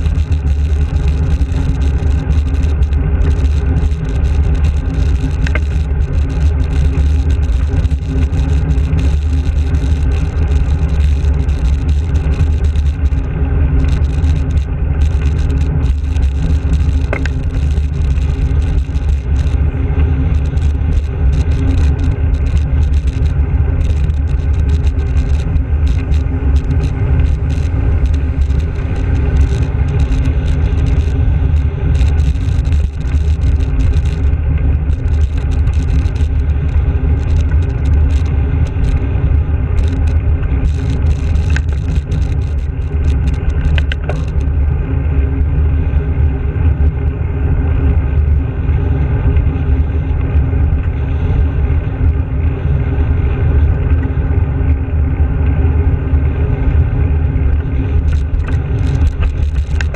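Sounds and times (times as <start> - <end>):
bicycle tyres on tarmac: 0.0 - 59.9
wind rushing over microphone: 0.0 - 59.9.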